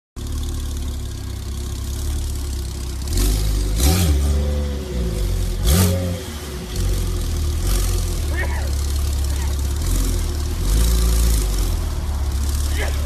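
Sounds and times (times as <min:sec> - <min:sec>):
car engine idling and revving: 0:00.2 - 0:13.0.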